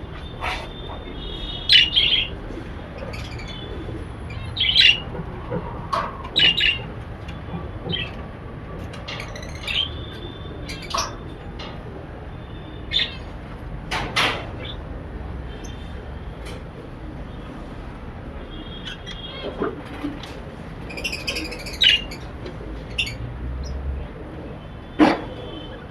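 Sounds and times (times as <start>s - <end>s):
caged birds chirping: 0.0s - 25.9s.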